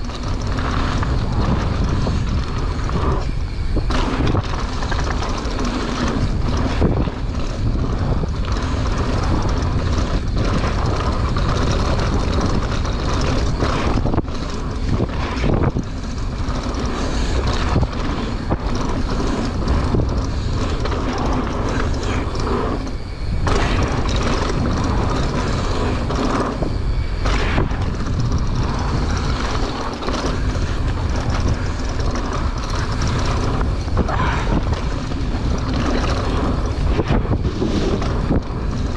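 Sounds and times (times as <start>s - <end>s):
mountain bike rumbling and rattling: 0.0s - 38.9s
wind buffeting microphone: 0.0s - 38.9s.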